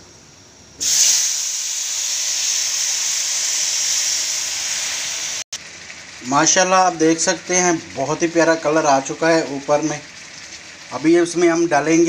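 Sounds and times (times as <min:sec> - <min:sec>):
water sizzling in hot oil: 0:00.8 - 0:12.0.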